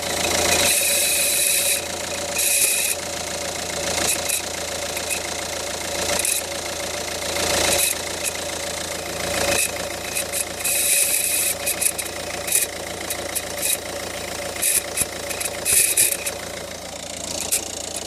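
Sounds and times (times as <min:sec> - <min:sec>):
car engine grinding: 0:00.0 - 0:18.0
sharp clicks and rattles: 0:00.0 - 0:18.0.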